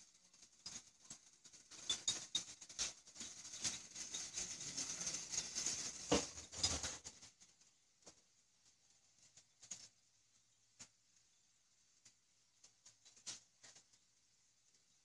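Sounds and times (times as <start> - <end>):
hiss with small pops and gurgles: 0.0 - 15.0.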